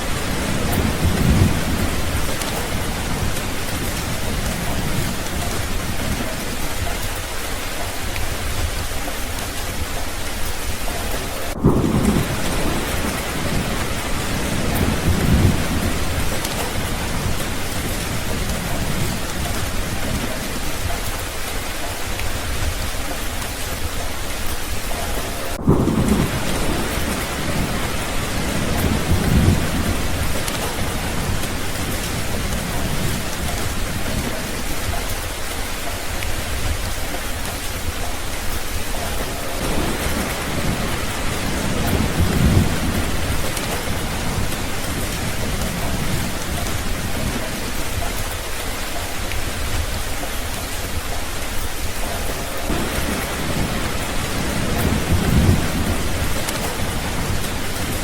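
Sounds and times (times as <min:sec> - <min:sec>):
heavy rain hissing: 0:00.0 - 0:58.0
thunder rumbling: 0:00.0 - 0:58.0.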